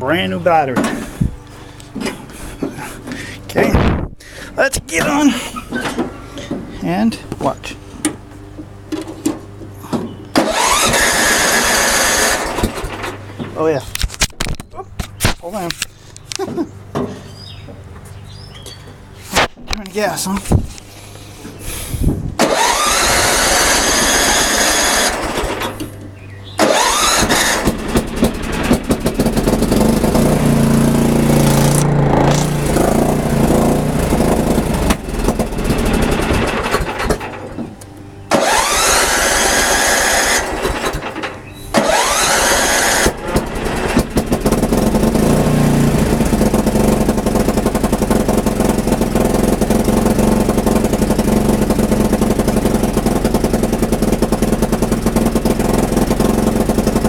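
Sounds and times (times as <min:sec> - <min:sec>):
lawn tractor engine running: 0:00.0 - 0:57.0
electric starter whining: 0:00.1 - 0:19.6, 0:20.4 - 0:57.0.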